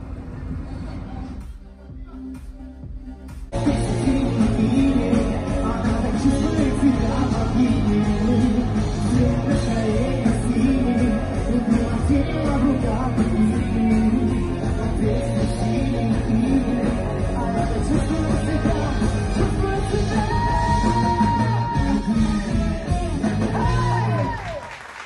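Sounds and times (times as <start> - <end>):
rock band playing live: 3.5 - 24.4
person singing: 3.5 - 24.5.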